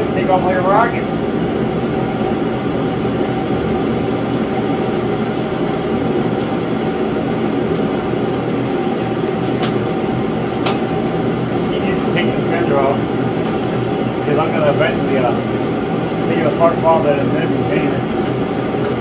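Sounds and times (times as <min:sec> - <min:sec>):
faint constant hum: 0:00.0 - 0:19.0
propane heater running: 0:00.0 - 0:19.0.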